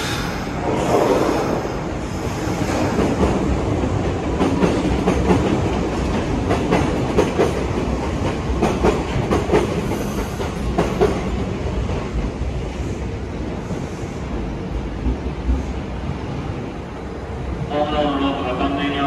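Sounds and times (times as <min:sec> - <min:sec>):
steady train rumble: 0:00.0 - 0:19.0.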